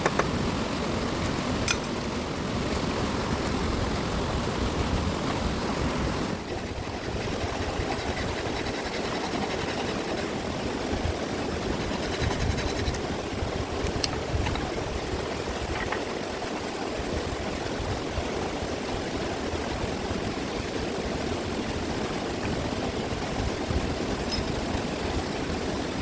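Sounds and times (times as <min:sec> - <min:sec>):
fast-flowing river rushing: 0:00.2 - 0:26.0.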